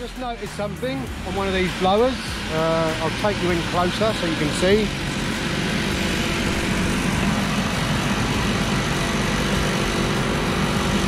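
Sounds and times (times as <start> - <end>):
electric blower fan humming: 0.0 - 11.0
rushing air: 0.5 - 11.0.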